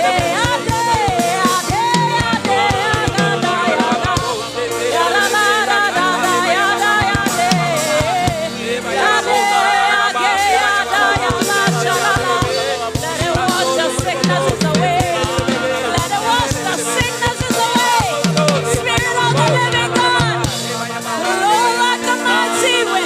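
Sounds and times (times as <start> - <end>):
band with drum beat: 0.0 - 23.0
voices singing: 0.0 - 23.0.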